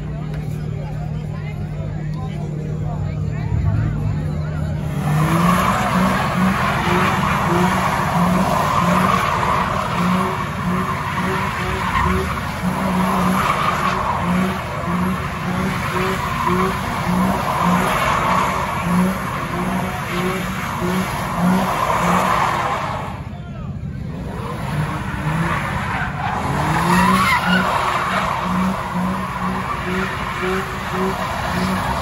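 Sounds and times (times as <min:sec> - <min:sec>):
pulsing car engine: 0:00.0 - 0:32.0
tyres screeching: 0:04.8 - 0:23.3, 0:24.2 - 0:32.0.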